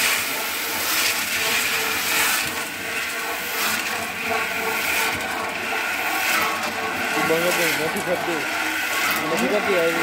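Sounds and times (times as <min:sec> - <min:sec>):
seeds rattling in drum mixer: 0:00.0 - 0:10.0.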